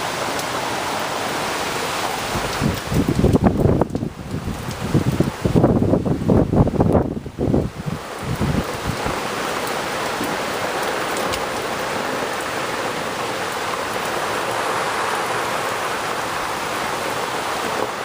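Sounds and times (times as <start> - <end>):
heavy rain pouring: 0.0 - 18.0
wind buffeting microphone: 2.1 - 18.0.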